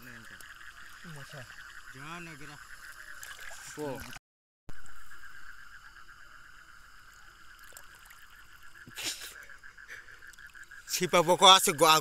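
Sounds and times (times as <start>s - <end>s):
pulsing night creature chorus: 0.0s - 4.2s, 4.8s - 12.0s.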